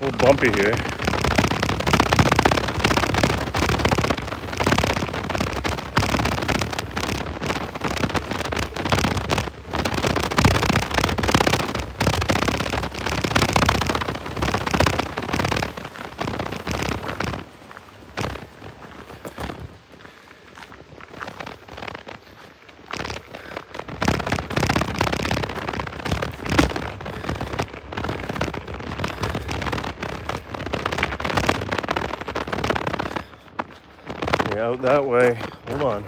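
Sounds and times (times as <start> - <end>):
scooter rattling over bumpy trail: 0.0 - 36.0.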